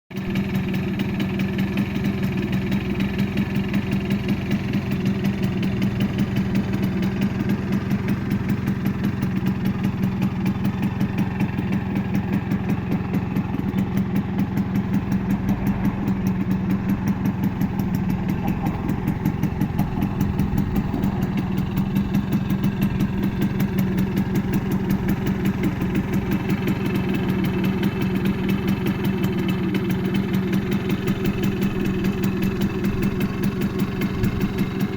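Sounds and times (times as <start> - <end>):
two-stroke moped engine idling: 0.1 - 34.9.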